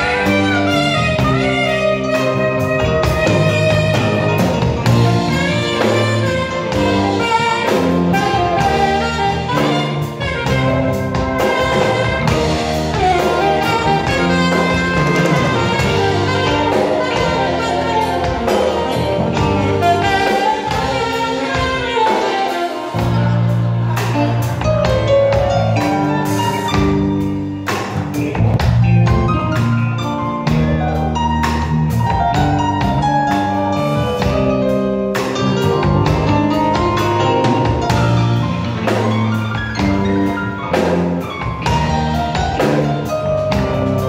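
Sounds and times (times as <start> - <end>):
drum kit: 0.0 - 44.0
keyboard: 0.0 - 44.0
saxophone lead: 0.0 - 44.0.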